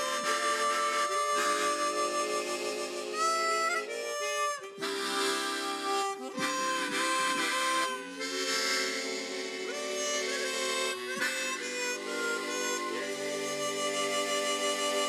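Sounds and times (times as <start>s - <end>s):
harmonica ensemble playing chords: 0.0s - 15.0s.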